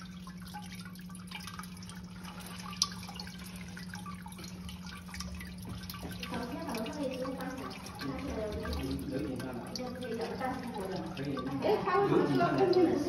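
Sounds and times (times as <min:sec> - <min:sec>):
fountain water spraying and dripping: 0:00.0 - 0:13.0
steady low hum: 0:00.0 - 0:13.0.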